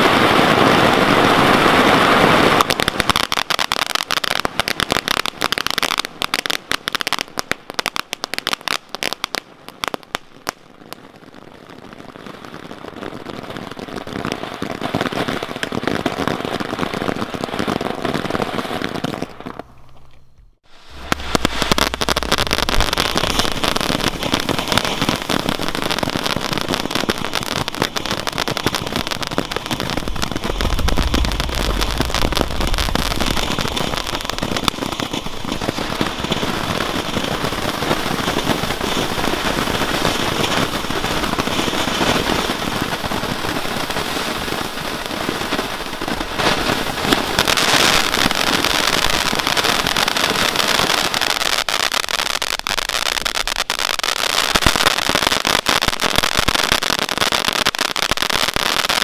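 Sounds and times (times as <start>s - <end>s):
fireworks hissing and crackling: 0.0s - 19.8s, 20.6s - 59.0s.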